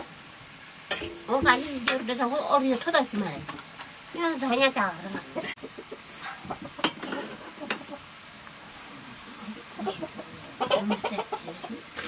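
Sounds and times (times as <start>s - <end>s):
vegetables frying hiss: 0.0s - 12.0s.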